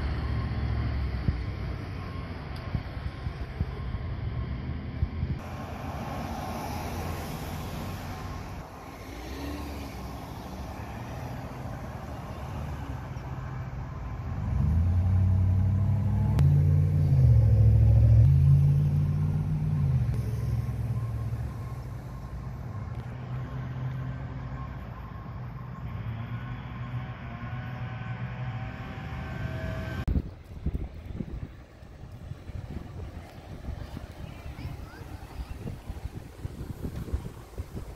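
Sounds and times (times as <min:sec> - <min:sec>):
heavy vehicle engine rumbling: 0:00.0 - 0:37.9
road traffic: 0:00.0 - 0:37.9.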